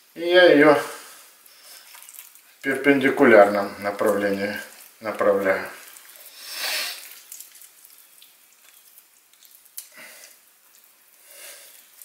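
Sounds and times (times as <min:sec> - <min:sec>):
wet handling of raw meat: 0:00.8 - 0:12.0.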